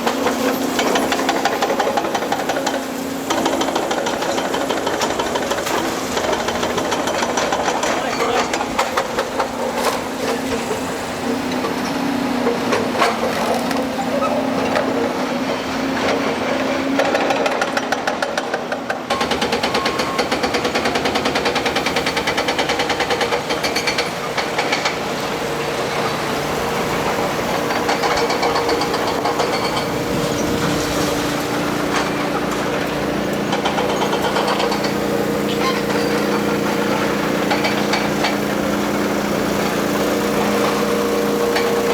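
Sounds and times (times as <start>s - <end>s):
excavator diesel engine running: 0.0s - 17.9s, 19.1s - 41.9s.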